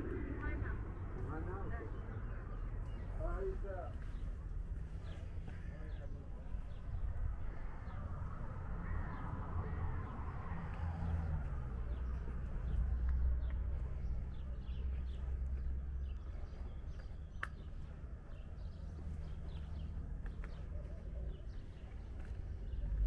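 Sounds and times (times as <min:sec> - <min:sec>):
low city rumble: 0:00.0 - 0:23.0.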